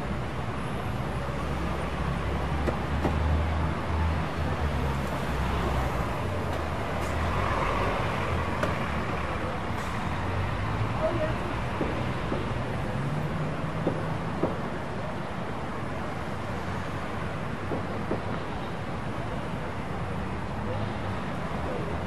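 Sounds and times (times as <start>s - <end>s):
cars driving past: 0.0s - 22.0s
low rumble of engines and tyres: 0.0s - 22.0s.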